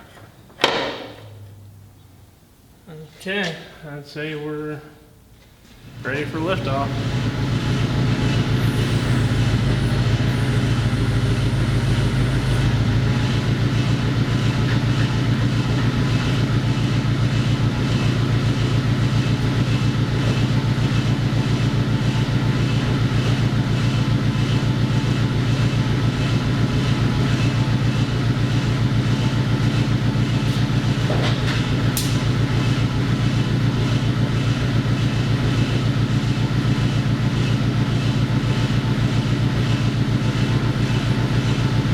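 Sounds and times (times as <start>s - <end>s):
engine running steadily: 5.6s - 41.9s.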